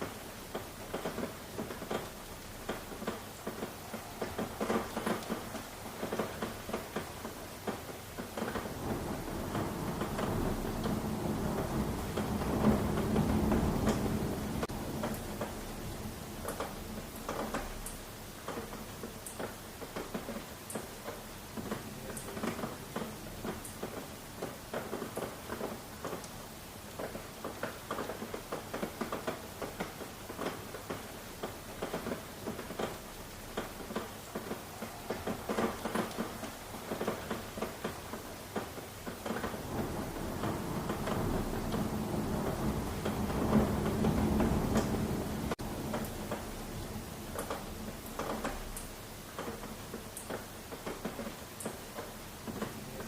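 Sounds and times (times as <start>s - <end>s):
rain falling: 0.0s - 53.0s
raindrops tapping: 0.0s - 53.0s.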